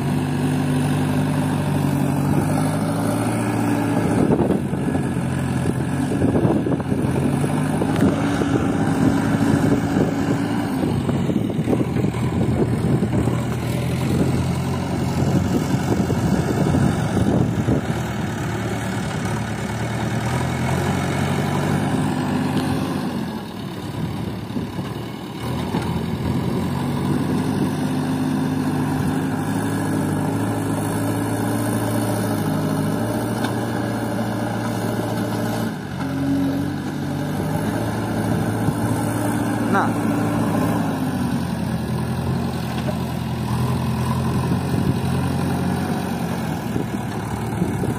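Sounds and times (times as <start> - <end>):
diesel engines running: 0.0 - 47.9.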